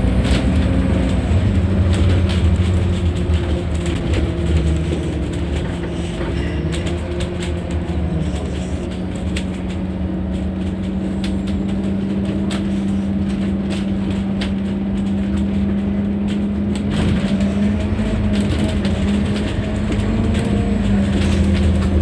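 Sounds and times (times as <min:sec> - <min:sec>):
bus engine drone: 0:00.0 - 0:22.0
light clicks and rattles: 0:00.2 - 0:22.0.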